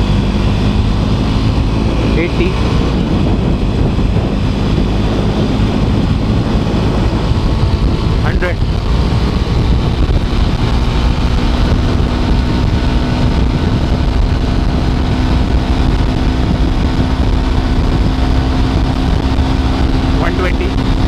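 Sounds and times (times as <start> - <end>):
motorcycle engine accelerating: 0.0 - 21.0
wind blast on microphone: 0.0 - 21.0.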